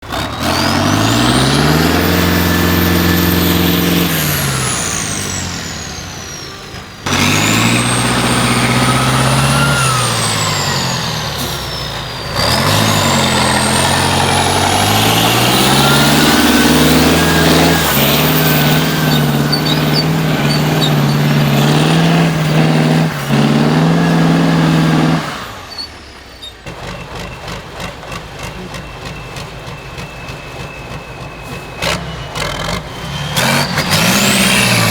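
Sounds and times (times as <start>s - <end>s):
truck diesel engine revving: 0.0s - 34.9s.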